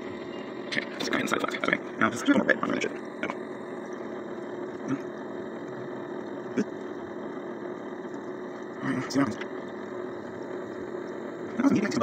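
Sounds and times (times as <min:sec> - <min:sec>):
magnetic stirrer hum: 0:00.0 - 0:12.0.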